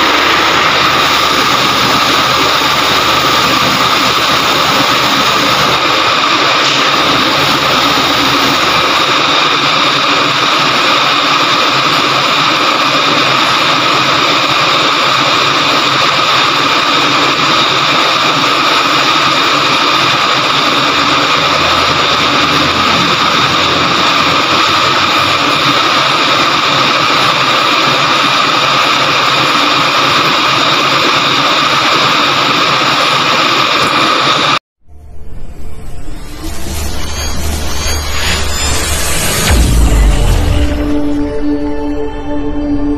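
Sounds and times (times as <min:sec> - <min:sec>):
machinery drone with whine: 0:00.0 - 0:42.9.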